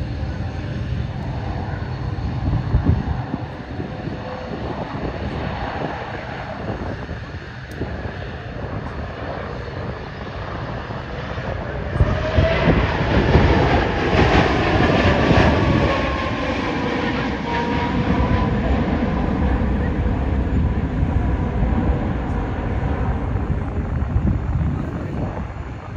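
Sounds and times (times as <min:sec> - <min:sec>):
aircraft engine roar overhead: 0:00.0 - 0:25.9.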